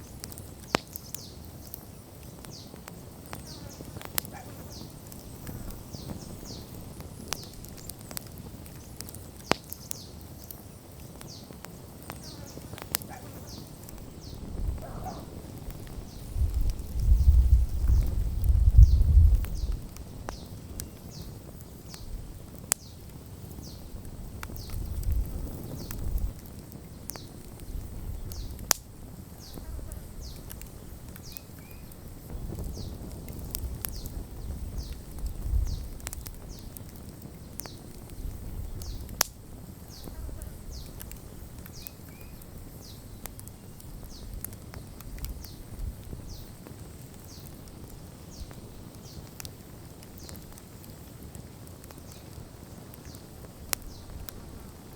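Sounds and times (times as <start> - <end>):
campfire flames rumbling: 0.0 - 54.9
fire crackling pops: 0.0 - 54.9.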